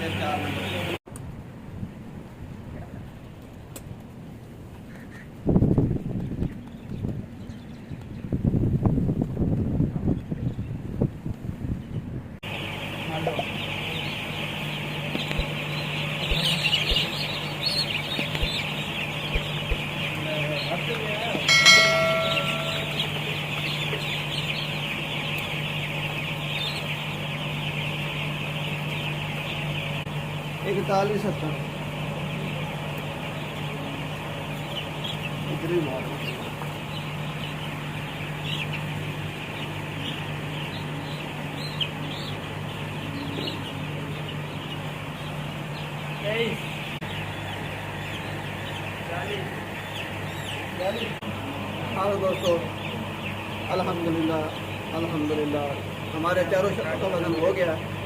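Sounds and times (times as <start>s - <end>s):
chicks peeping: 0.0s - 1.0s, 4.8s - 58.0s
steady low hum: 10.2s - 58.0s.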